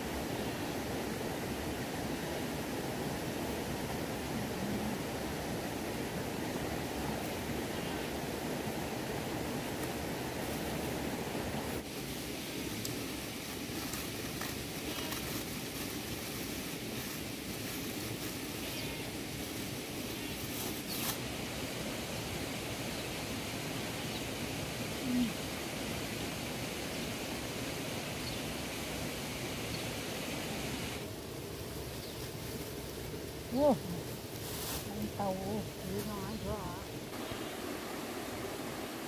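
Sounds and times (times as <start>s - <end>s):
outdoor rustling noise: 0.0s - 39.0s.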